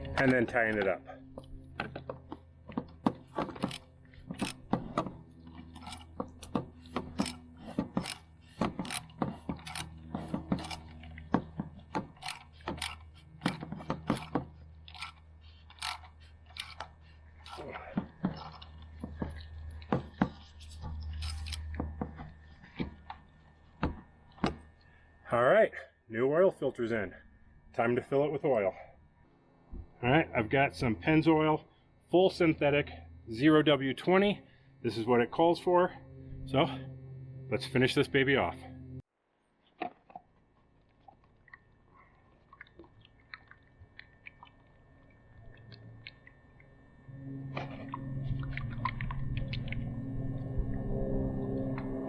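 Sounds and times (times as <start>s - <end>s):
low steady hum: 0.0s - 39.1s, 40.4s - 52.0s.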